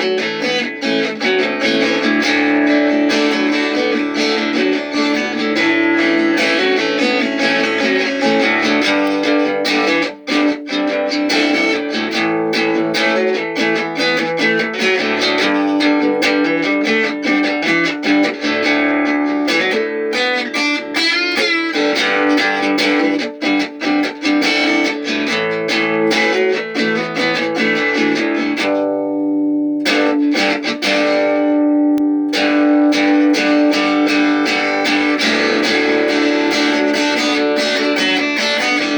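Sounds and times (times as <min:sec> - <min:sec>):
guitar plucked notes: 0:00.0 - 0:38.9.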